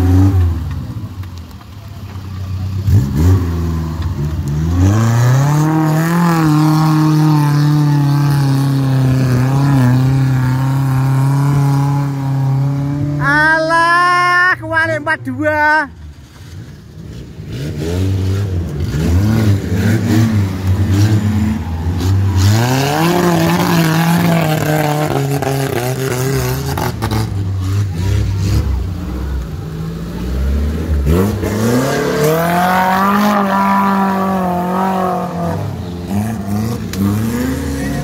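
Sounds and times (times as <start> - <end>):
off-road vehicle engine revving: 0.0 - 14.3, 16.4 - 38.0.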